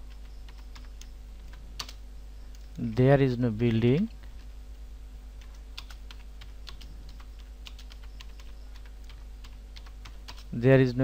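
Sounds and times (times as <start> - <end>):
keyboard typing: 0.0 - 4.5, 5.4 - 10.5
faint steady hum: 0.0 - 11.0.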